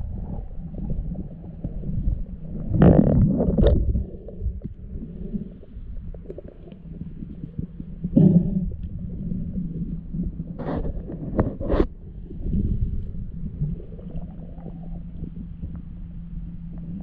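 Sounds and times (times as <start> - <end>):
underwater gushing swells: 0.0 - 17.0
underwater rumble of moving water: 0.0 - 17.0.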